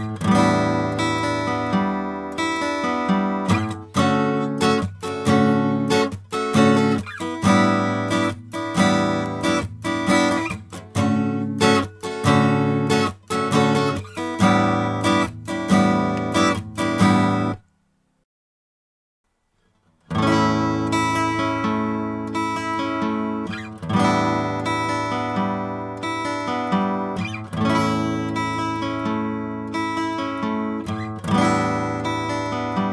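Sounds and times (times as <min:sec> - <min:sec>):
acoustic guitar strummed chords: 0:00.0 - 0:17.7, 0:19.6 - 0:32.9.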